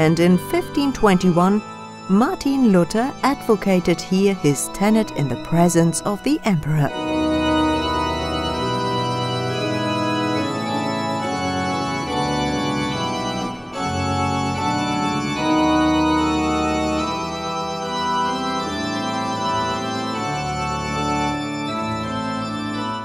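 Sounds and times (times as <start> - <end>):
organ music sustained chords: 0.0 - 23.0.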